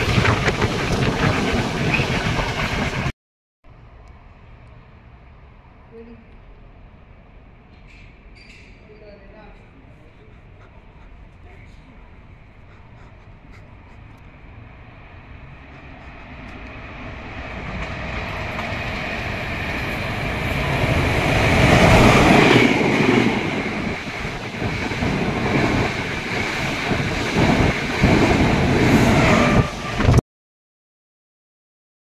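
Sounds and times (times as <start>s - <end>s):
passenger train passing: 0.0s - 3.1s, 3.7s - 30.2s.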